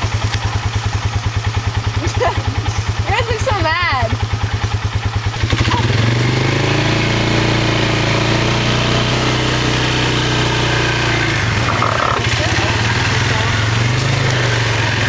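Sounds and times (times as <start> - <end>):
quad bike engine: 0.0 - 15.0.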